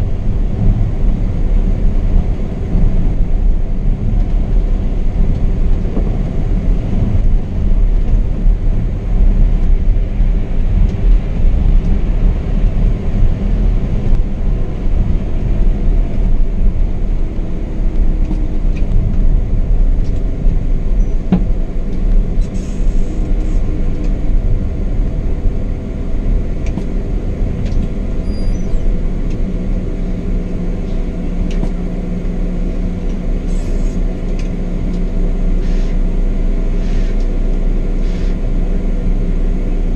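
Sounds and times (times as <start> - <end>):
coach diesel engine rumble: 0.0 - 39.9
road noise: 0.0 - 39.9.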